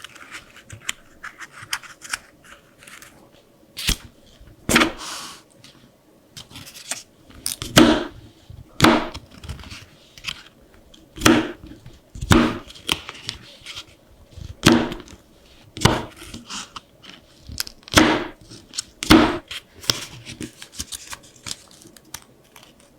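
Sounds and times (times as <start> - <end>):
paper rustling and creasing: 0.0 - 3.4, 4.0 - 11.0, 11.6 - 22.9.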